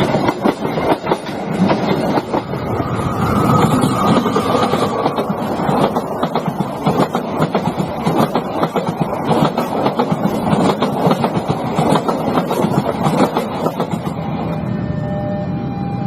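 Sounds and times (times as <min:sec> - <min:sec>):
train wheels clacking on rails: 0:00.0 - 0:14.6.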